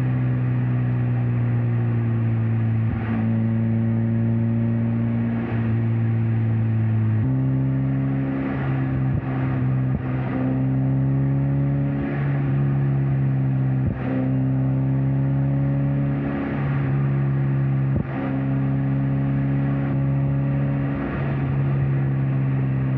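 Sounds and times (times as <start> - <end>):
car engine cruising: 0.0 - 22.9
tyre and road noise: 0.0 - 22.9.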